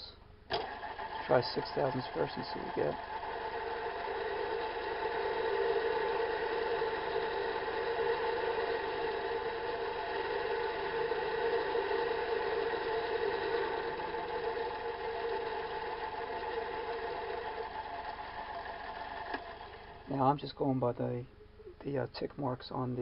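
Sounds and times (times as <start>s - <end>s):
metal lathe humming: 0.0s - 20.1s.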